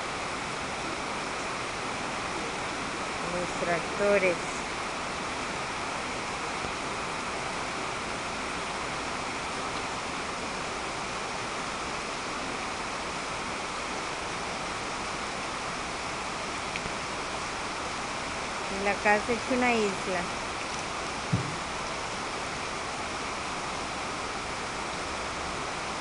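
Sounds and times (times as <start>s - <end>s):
heavy rain pouring onto water: 0.0s - 26.0s.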